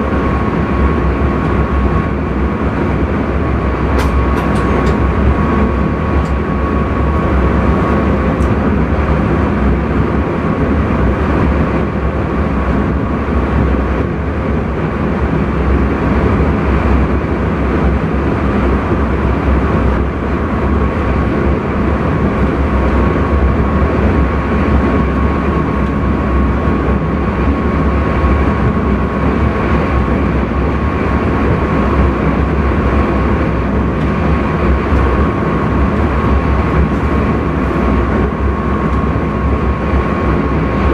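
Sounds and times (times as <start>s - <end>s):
thin steady whine: 0.0s - 40.9s
train running rumble: 0.0s - 40.9s.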